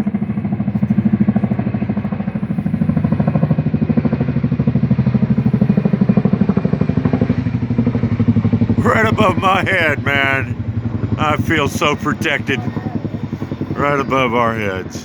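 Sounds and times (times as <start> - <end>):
helicopter rotor blades beating: 0.0 - 15.0.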